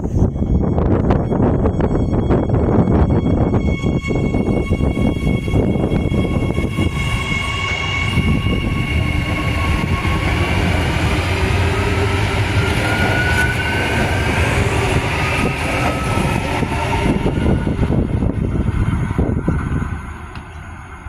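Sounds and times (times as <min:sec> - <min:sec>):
electric traction whine: 0:00.0 - 0:21.0
train wheels rumbling: 0:00.0 - 0:21.0.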